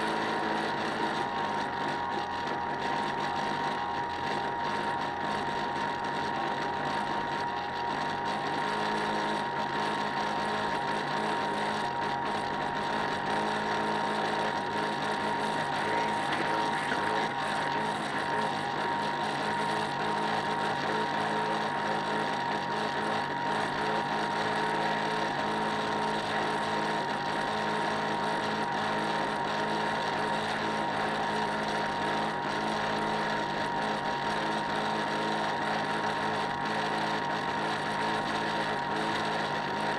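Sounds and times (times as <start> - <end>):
model boat motor whining: 0.0 - 39.9.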